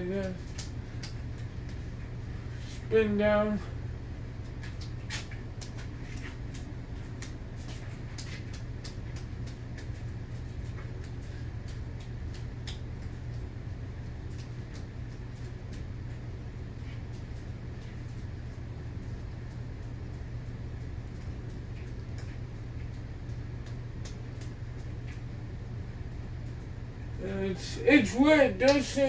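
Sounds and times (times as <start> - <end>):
ceiling fan clicking: 0.0 - 29.0
ceiling fan humming: 0.0 - 29.0.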